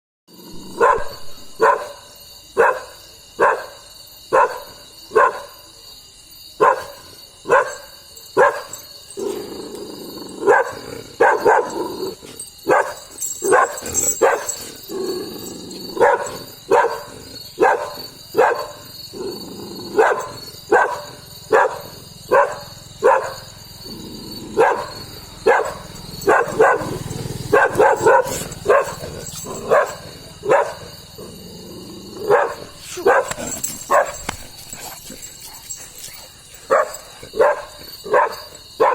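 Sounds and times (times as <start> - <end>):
dog barking aggressively: 0.6 - 2.0, 6.6 - 38.9.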